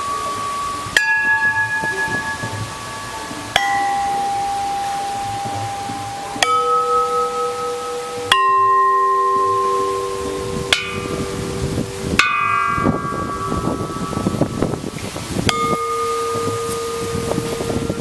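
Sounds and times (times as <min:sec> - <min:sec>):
metal bells ringing: 0:00.0 - 0:18.0.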